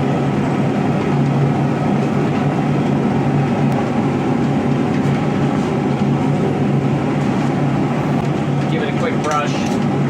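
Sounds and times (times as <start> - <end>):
constant low hum: 0.0 - 10.0.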